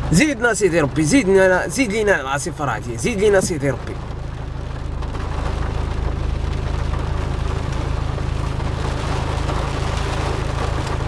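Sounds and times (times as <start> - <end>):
car engine idling: 0.0 - 11.0
heavy rain on car roof: 0.0 - 11.0.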